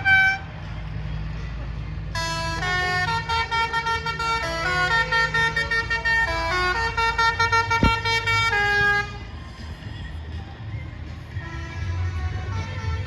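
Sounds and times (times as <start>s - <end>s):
engine rumble: 0.0s - 13.0s.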